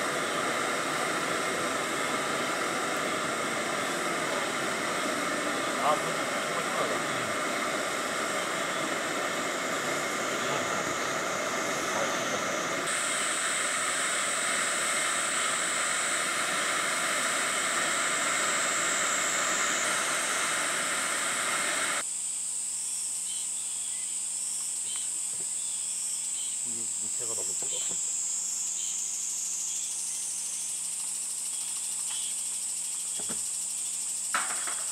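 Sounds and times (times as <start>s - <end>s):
high insect trill: 0.0s - 34.9s
steady hissing noise: 0.0s - 34.9s.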